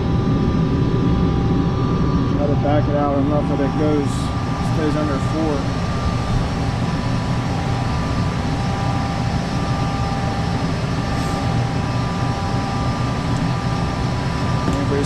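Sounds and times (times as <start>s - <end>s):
gas furnace burner and blower: 0.0s - 15.0s
faint steady tones: 1.2s - 15.0s.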